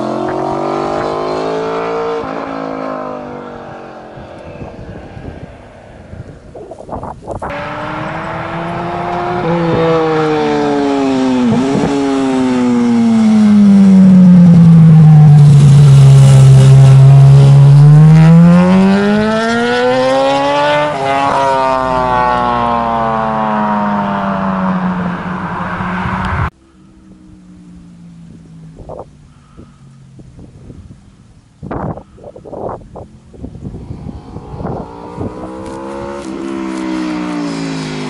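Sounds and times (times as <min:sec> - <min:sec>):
motorcycle passing and revving: 0:00.0 - 0:30.7, 0:33.0 - 0:38.0.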